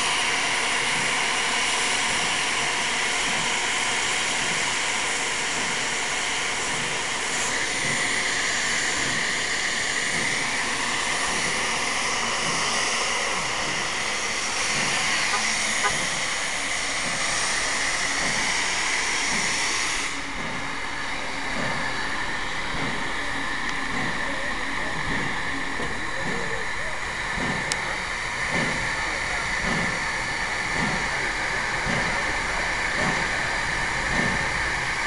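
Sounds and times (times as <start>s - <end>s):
steam locomotive hissing steam: 0.0s - 35.0s.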